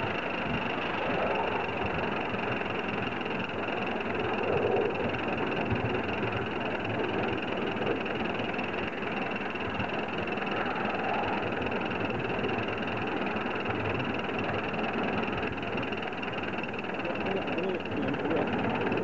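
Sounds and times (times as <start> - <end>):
model steam locomotive running: 0.0 - 19.0.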